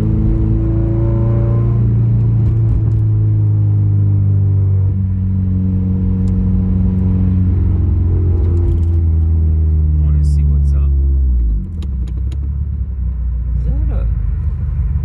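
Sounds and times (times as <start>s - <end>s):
car engine running while driving: 0.0s - 15.0s.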